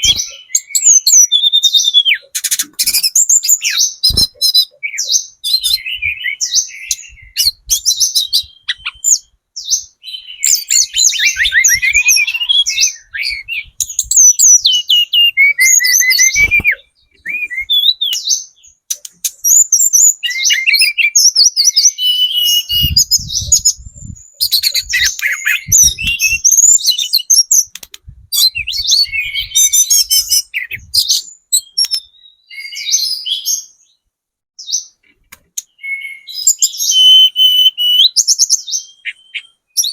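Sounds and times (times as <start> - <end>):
bird singing whistles and trills: 0.0 - 34.0, 35.6 - 39.9.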